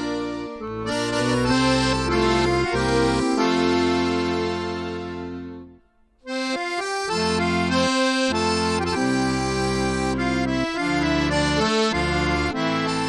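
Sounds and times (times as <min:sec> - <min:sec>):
instrumental music with chords and bass: 0:00.0 - 0:13.0.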